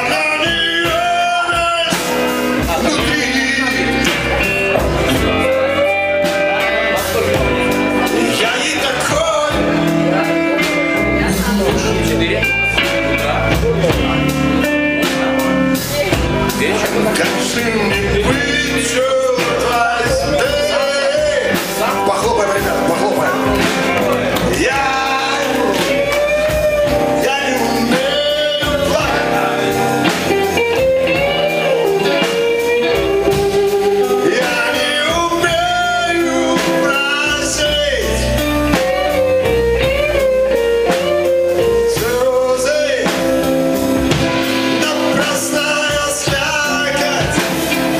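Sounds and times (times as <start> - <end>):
electric guitars playing: 0.0 - 47.9
man singing into a microphone: 0.0 - 47.9.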